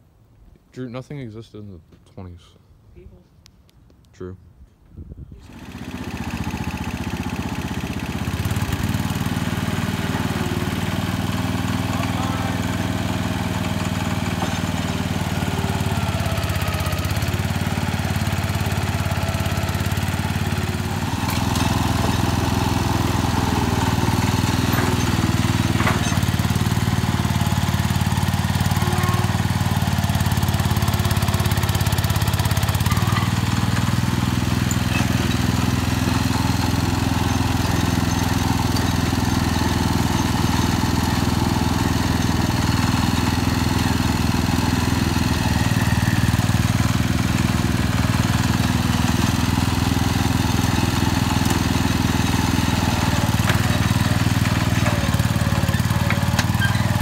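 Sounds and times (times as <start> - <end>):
garden tractor engine running: 5.4 - 57.0.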